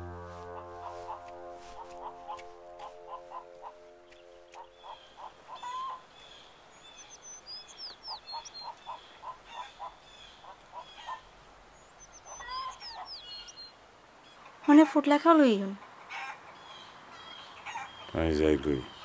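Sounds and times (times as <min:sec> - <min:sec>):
birds calling: 0:00.0 - 0:14.6, 0:15.8 - 0:19.0.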